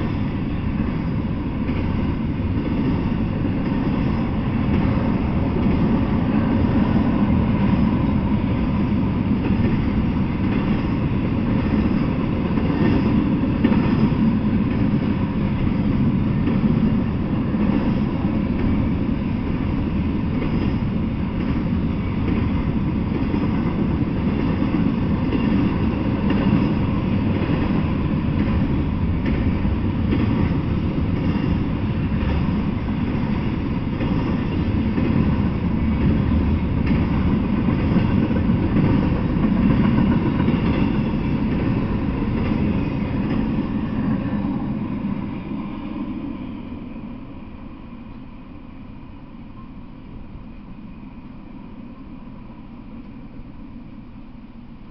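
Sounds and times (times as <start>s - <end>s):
steel wheels running on rails: 0.0s - 54.9s.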